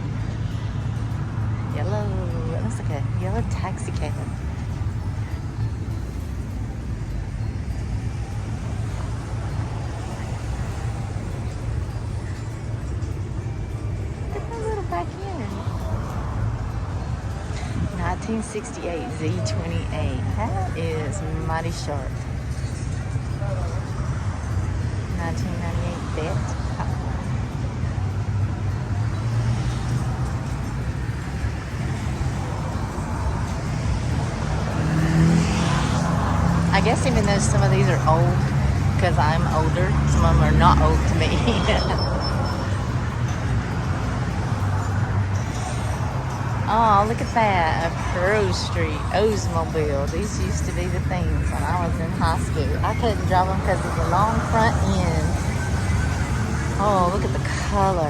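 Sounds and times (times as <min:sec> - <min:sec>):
car engines passing: 0:00.0 - 0:58.0
street traffic rumble: 0:00.0 - 0:58.0.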